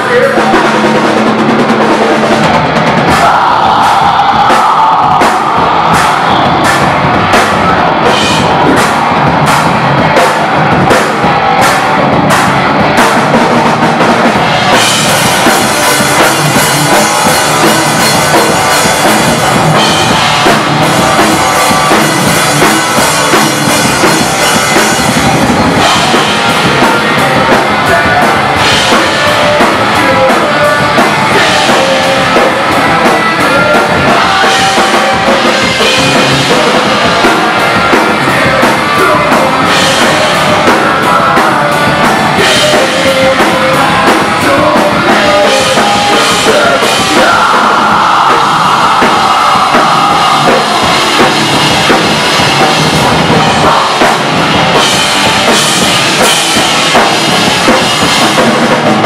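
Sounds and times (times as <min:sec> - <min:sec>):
electric guitar: 0:00.0 - 0:59.0
live rock band playing: 0:00.0 - 0:59.0
person singing into a microphone: 0:00.0 - 0:59.0
pounding drum kit: 0:00.0 - 0:59.0.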